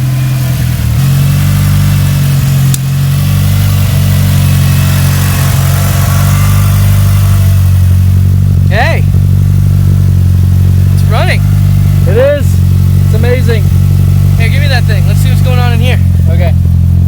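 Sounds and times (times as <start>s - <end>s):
inline-four engine running: 0.0s - 17.0s.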